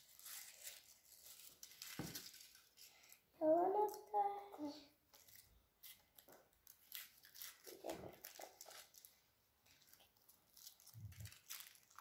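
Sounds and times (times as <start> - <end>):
foil wrappers crinkling and tearing: 0.0 - 3.2, 5.1 - 12.0.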